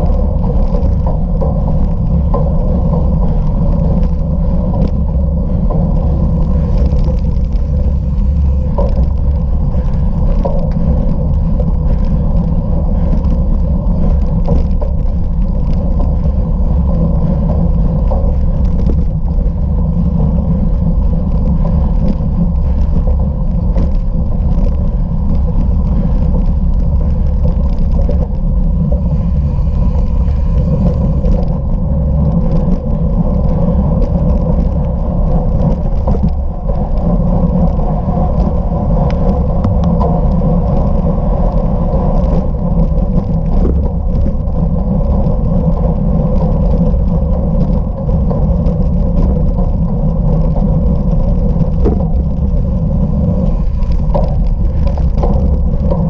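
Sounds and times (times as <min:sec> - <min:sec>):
bicycle rolling rumble: 0:00.0 - 0:56.0
wind noise: 0:00.0 - 0:56.0.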